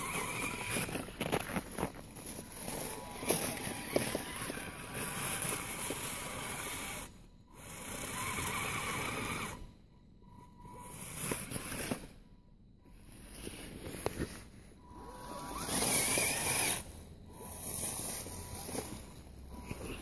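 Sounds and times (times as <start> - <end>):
electric motor and gears whirring: 0.0 - 20.0
tyres crunching snow: 0.0 - 20.0.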